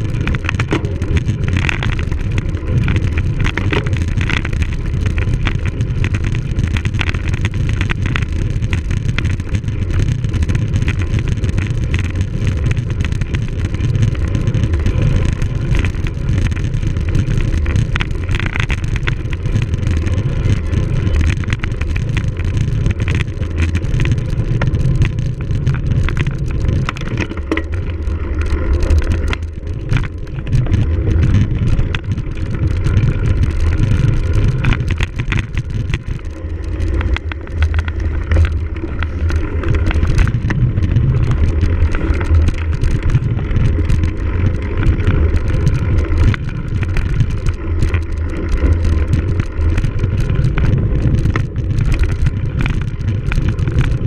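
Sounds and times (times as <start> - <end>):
bike rattling and clattering: 0.0 - 54.0
wind rumble on microphone: 0.0 - 54.0.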